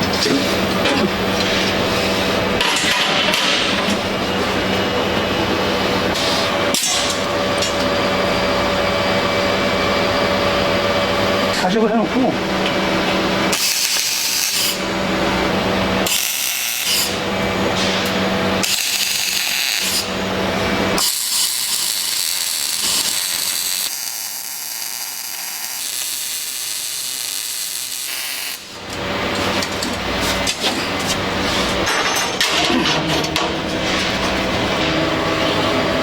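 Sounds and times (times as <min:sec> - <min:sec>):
metalworking power tool running: 0:00.0 - 0:36.0.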